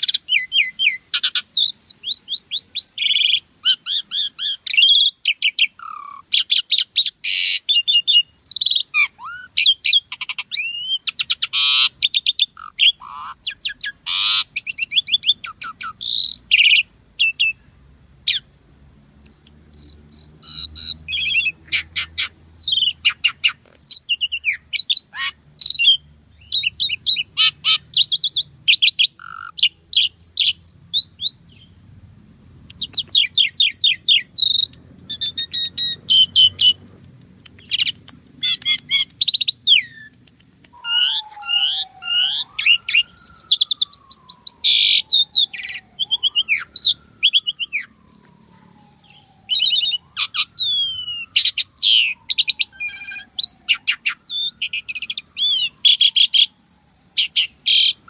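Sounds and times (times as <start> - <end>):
starling singing: 0.0 - 18.5, 19.3 - 31.8, 32.7 - 58.0.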